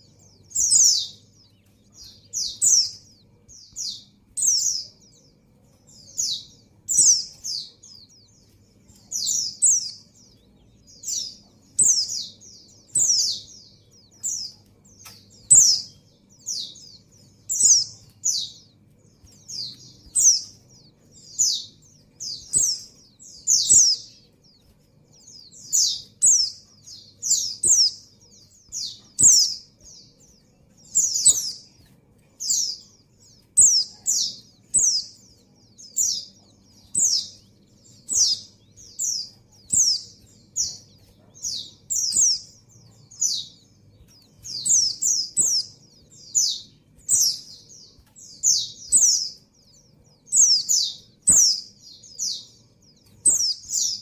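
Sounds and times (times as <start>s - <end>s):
bird high downward calls: 0.0s - 54.0s.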